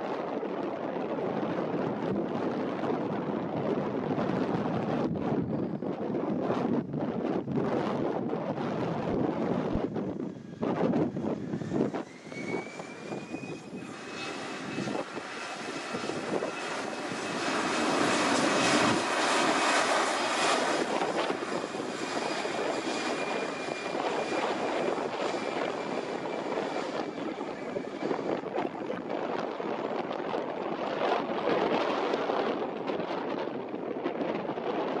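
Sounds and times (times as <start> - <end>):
jet engine roar: 0.0 - 35.0
jet engine whine: 0.0 - 35.0.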